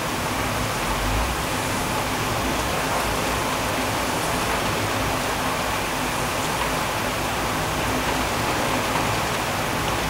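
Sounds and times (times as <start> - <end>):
heavy rain downpour: 0.0 - 10.0.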